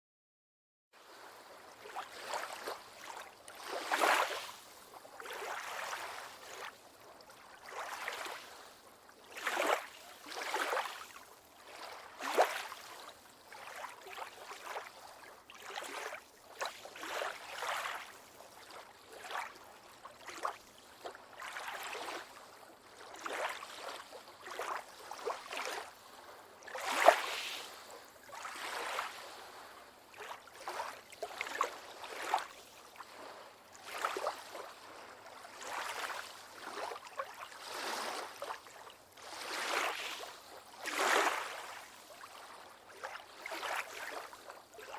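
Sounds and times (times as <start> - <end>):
small waves lapping on beach: 1.0 - 44.9.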